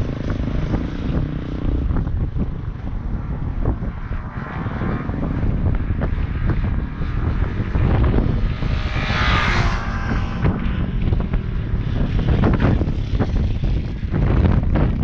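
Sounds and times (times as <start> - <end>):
small motorcycle engines: 0.0 - 15.0
wind rumble on microphone: 0.0 - 15.0.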